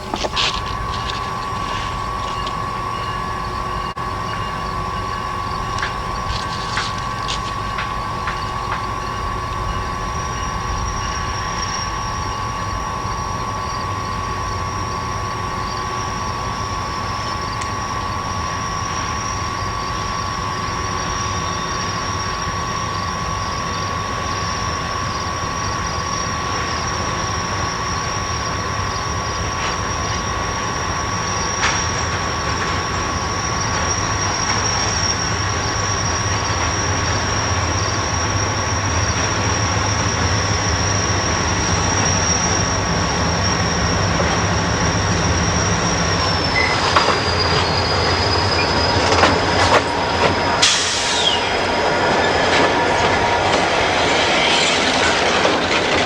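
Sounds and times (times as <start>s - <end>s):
freight train rumbling: 0.0s - 56.0s
high-pitched whine: 0.0s - 56.0s.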